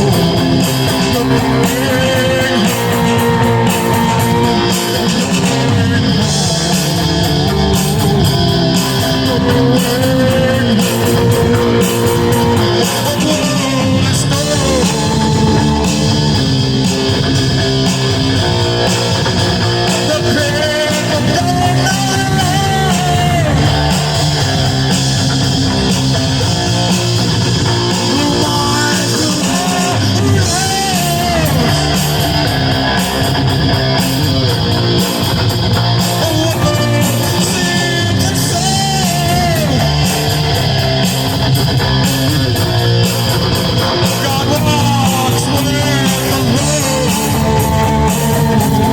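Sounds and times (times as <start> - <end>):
distorted electric guitar rock music: 0.0 - 48.9.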